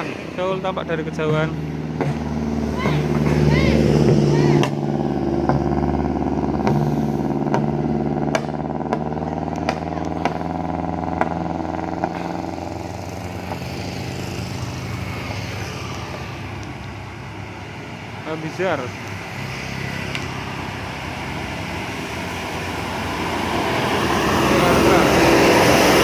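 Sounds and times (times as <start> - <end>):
bus diesel engine climbing: 0.0 - 26.0.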